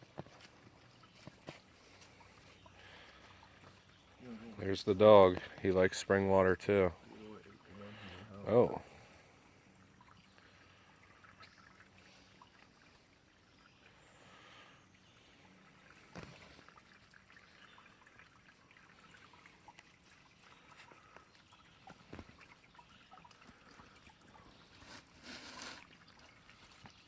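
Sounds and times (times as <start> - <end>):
faint trickle of water: 0.0 - 27.0.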